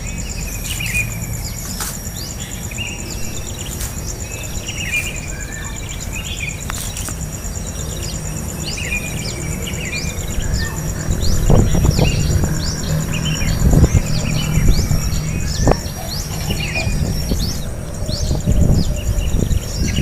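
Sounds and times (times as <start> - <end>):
birds chirping: 0.0 - 20.0
insect buzz: 0.0 - 20.0.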